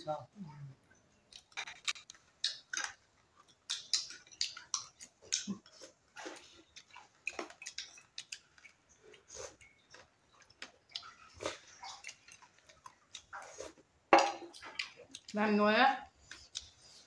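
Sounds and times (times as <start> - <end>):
chewing and mouth smacks: 1.3 - 15.4, 16.2 - 17.0.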